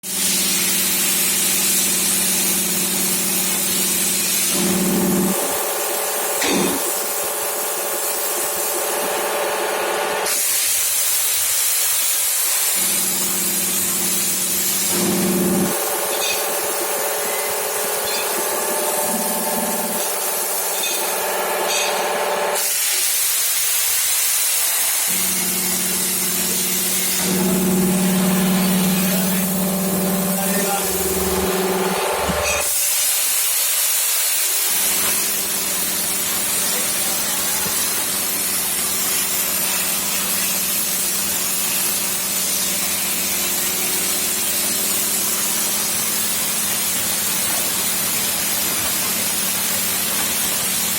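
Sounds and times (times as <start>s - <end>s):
plasma cutter torch hissing: 0.0s - 50.9s.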